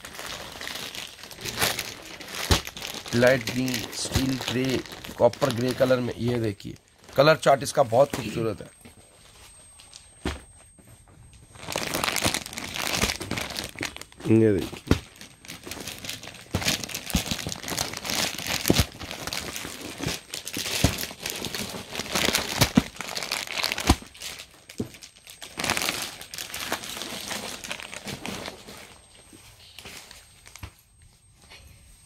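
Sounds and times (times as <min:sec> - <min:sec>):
packaging crinkling and rustling: 0:00.0 - 0:10.6, 0:11.2 - 0:30.9.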